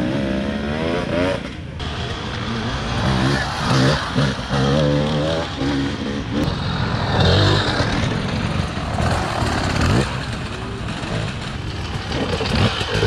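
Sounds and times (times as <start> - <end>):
dirt-bike engines revving: 0.0 - 13.0.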